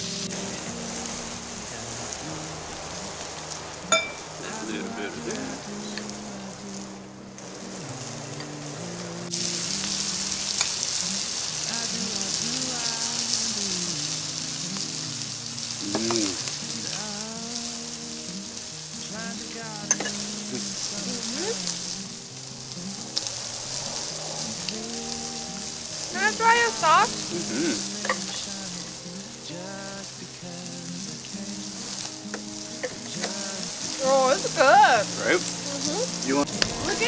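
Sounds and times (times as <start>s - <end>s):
meat sizzling on grill: 0.0s - 37.0s
soft background music: 0.0s - 37.0s.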